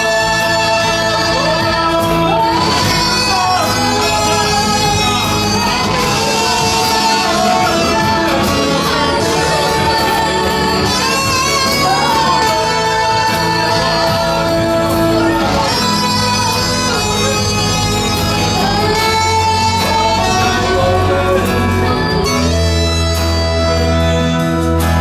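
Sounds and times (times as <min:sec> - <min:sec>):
electric guitar: 0:00.0 - 0:25.0
keyboard: 0:00.0 - 0:25.0
strummed acoustic guitar: 0:00.0 - 0:25.0
voices singing worship song: 0:00.0 - 0:25.0.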